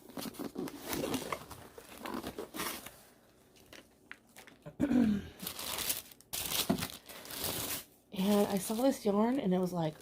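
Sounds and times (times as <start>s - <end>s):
packaging rustling and crinkling: 0.0s - 4.6s, 5.4s - 10.0s.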